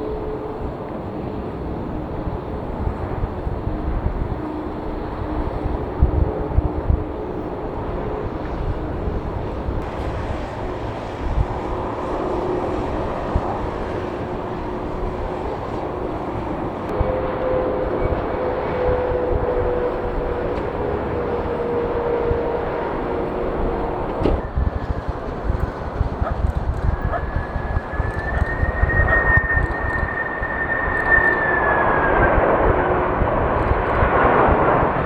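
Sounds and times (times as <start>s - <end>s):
jet engines rumbling: 0.0s - 35.0s
steady whine: 0.0s - 35.0s.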